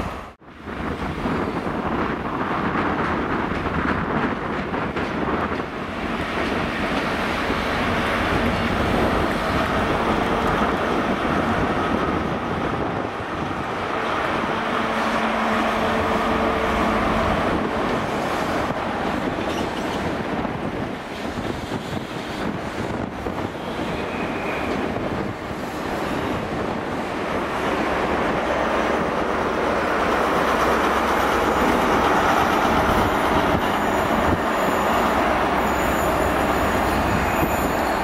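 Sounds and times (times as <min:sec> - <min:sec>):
train rumbling past on rails: 0:00.0 - 0:38.0.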